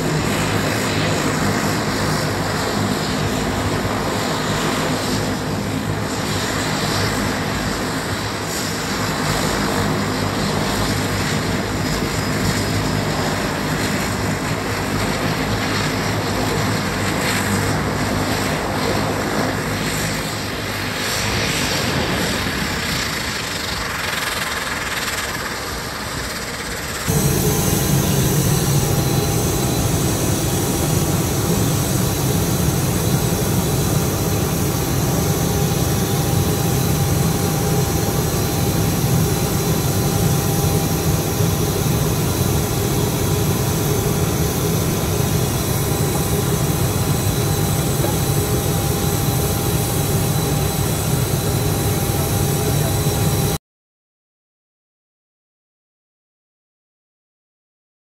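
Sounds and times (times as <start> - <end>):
turboprop engines droning: 0.0 - 53.6.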